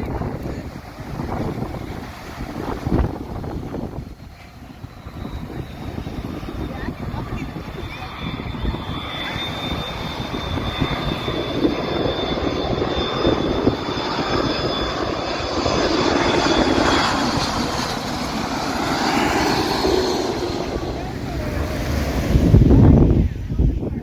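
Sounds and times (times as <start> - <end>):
airplane engine rushing: 0.0 - 24.0
airplane engine whine: 0.0 - 24.0.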